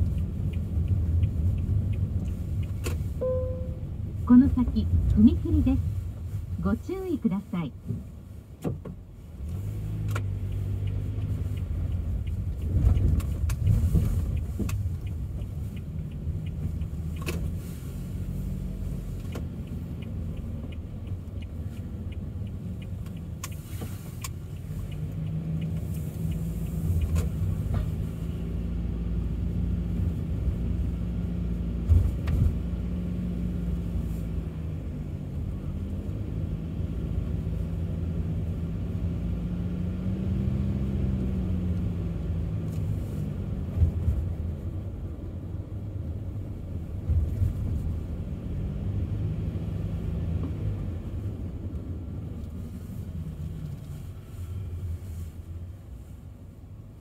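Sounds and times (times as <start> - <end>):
car engine hum: 0.0 - 57.0
road and tyre noise: 0.0 - 57.0.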